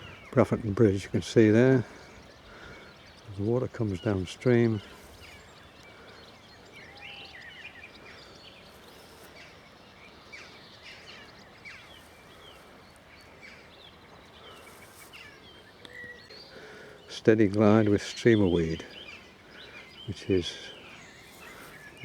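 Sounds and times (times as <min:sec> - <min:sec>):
faint songbirds chirping: 0:00.0 - 0:22.0
outdoor background rush: 0:00.0 - 0:22.0.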